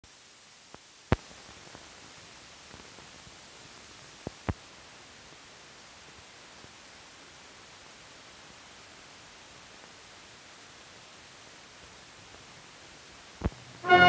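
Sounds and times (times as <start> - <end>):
film soundtrack hiss: 0.0 - 14.0.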